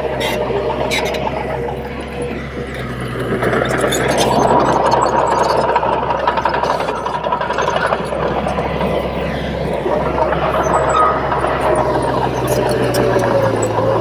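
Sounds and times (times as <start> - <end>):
bulldozer diesel engine running: 0.0 - 14.0
steel tracks clattering: 0.0 - 14.0.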